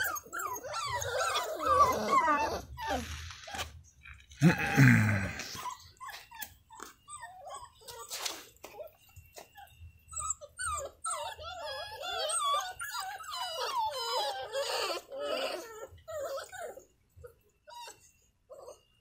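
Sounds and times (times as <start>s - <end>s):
puppies whining and whimpering: 0.0s - 4.3s, 5.3s - 19.0s.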